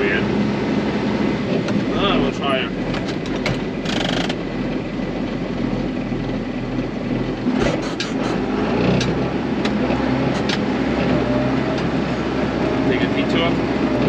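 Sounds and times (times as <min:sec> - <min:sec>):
diesel excavator engine running: 0:00.0 - 0:14.0.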